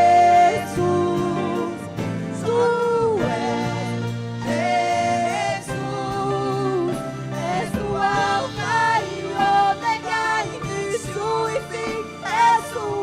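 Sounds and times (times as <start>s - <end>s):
live worship band playing: 0.0s - 13.0s
singers holding sustained notes: 0.0s - 13.0s.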